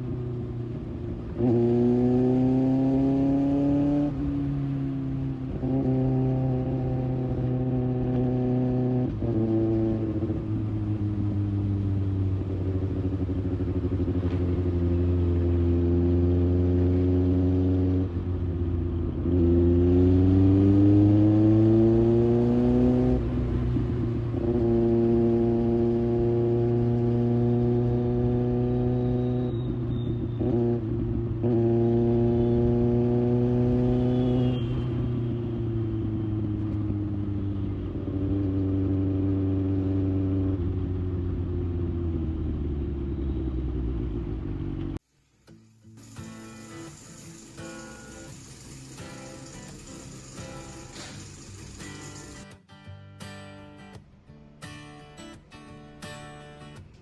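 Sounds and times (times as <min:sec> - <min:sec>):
motorcycle engine revving: 0:00.0 - 0:45.0, 0:46.0 - 0:52.5.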